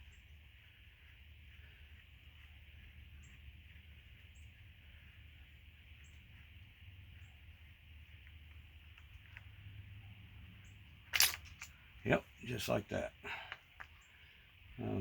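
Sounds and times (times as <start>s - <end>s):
faint low hum and hiss: 0.0s - 15.0s.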